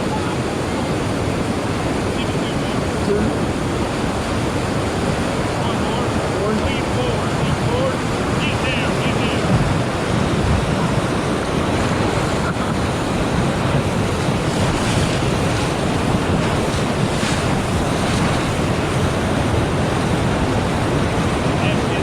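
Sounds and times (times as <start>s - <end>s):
whitewater rushing: 0.0s - 22.0s
wind noise on microphone: 0.0s - 22.0s.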